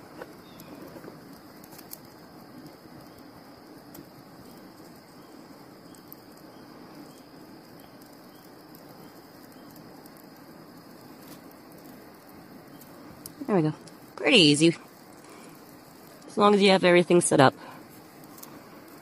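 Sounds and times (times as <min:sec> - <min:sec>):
campfire crackling: 0:00.0 - 0:19.0
outdoor hiss: 0:00.0 - 0:19.0.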